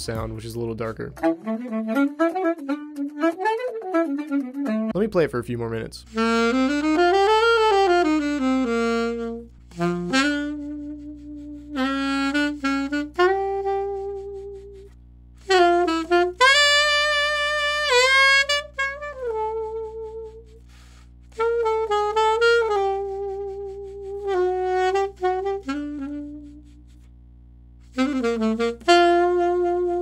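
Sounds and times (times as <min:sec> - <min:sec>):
alto saxophone playing: 0:00.0 - 0:05.0, 0:05.6 - 0:27.1, 0:27.8 - 0:30.0
faint electrical buzz: 0:00.0 - 0:30.0.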